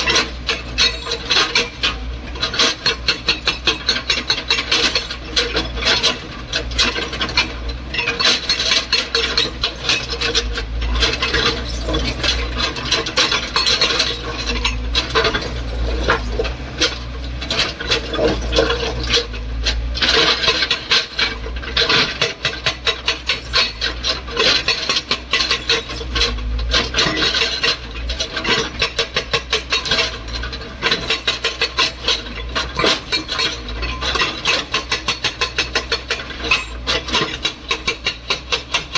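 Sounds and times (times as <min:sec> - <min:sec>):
excavator engine hum: 0:00.0 - 0:38.9
metal clatter and knocks: 0:00.0 - 0:38.9.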